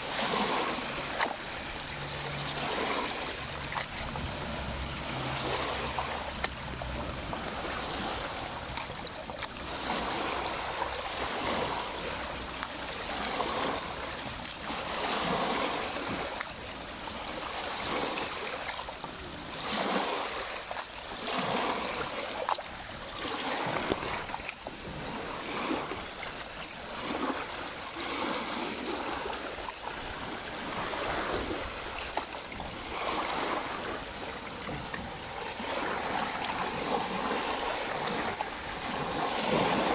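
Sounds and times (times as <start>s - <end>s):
lake water lapping at shore: 0.0s - 39.9s.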